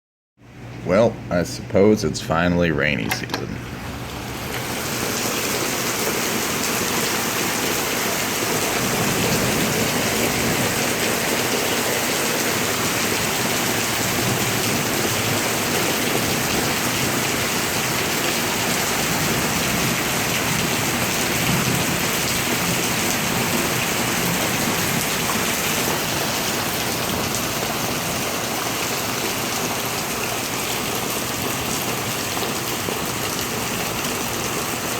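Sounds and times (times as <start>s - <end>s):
rain pouring: 3.6s - 34.9s.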